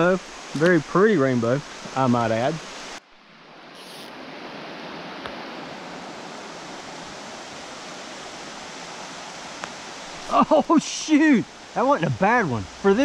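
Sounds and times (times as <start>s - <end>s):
creek rushing over stones: 0.0s - 13.0s.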